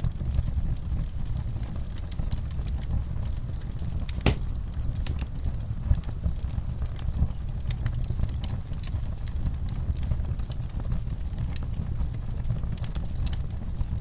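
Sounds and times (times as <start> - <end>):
fire popping: 0.0 - 14.0
low rumble of flames: 0.0 - 14.0
wood fire crackling: 0.0 - 14.0.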